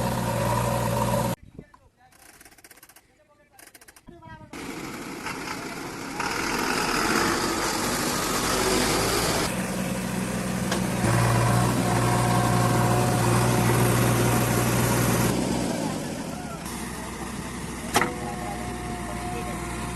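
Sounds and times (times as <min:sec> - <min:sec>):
diesel engine running: 0:00.0 - 0:01.4, 0:04.6 - 0:19.9.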